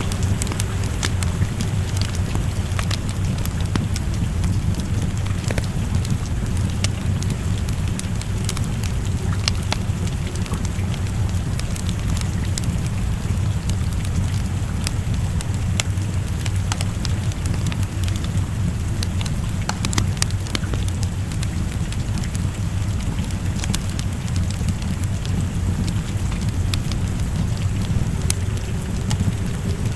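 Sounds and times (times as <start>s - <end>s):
rain falling: 0.0s - 29.9s
wood fire crackling: 0.0s - 29.9s.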